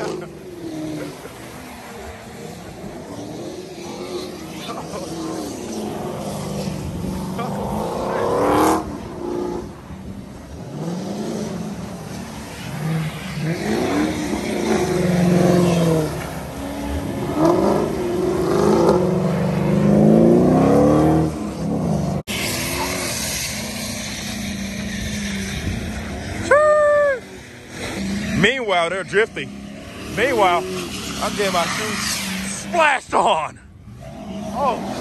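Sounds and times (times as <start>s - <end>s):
steady engine drone: 0.0s - 33.0s
car engines revving hard: 0.0s - 35.0s.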